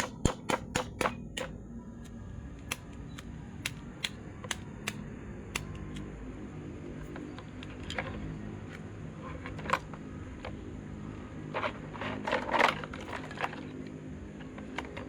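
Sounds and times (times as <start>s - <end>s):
clicks and scrapes of fan parts: 0.0s - 6.1s, 7.0s - 10.6s, 11.4s - 15.0s
steady low hum: 0.0s - 12.5s.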